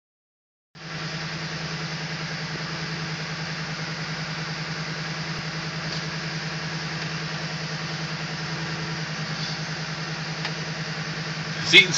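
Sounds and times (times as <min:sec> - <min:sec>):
car engine idling: 0:00.8 - 0:11.9.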